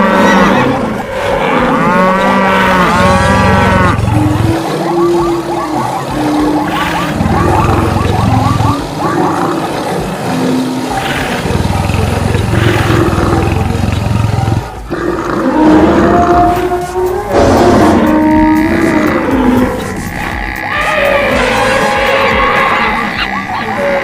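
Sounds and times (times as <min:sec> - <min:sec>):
animal roars and calls: 0:00.0 - 0:24.0
rumble of running animals: 0:00.0 - 0:24.0.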